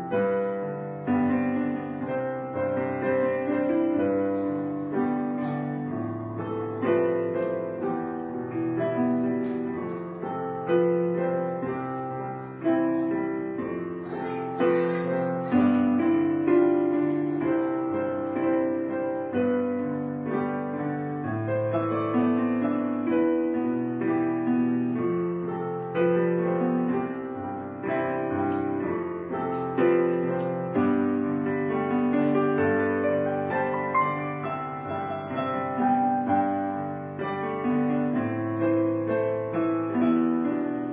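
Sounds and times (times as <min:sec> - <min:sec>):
slow piano music: 0:00.0 - 0:40.9.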